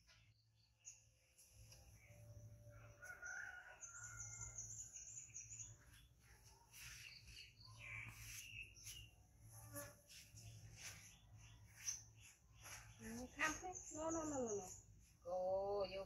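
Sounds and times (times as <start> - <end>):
faint bird calls and chirps: 0.0 - 16.0.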